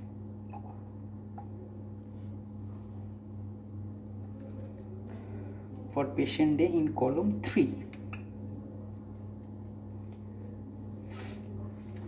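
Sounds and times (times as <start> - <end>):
blower low hum: 0.0 - 12.0.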